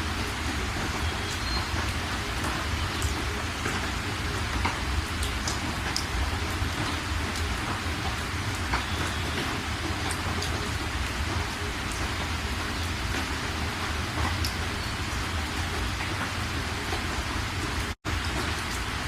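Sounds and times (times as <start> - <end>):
drops ticking: 0.0 - 17.0
steady rain: 0.0 - 19.0.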